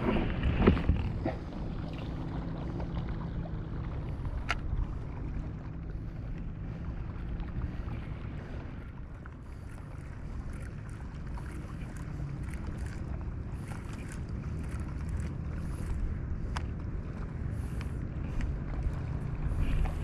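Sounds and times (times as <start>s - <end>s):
water sounds: 0.0s - 20.0s
wind rumbling on microphone: 0.0s - 20.0s.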